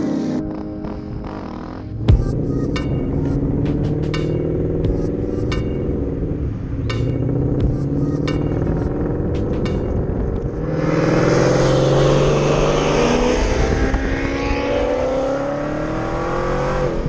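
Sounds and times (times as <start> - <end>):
car engine idling and revving: 0.4 - 17.0.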